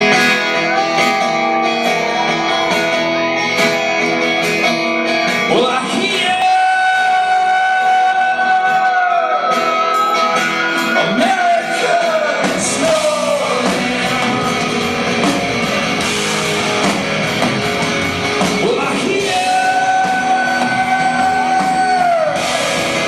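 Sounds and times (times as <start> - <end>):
person singing: 0.0 - 4.3, 5.3 - 16.0, 18.3 - 23.0
live rock band: 0.0 - 23.0.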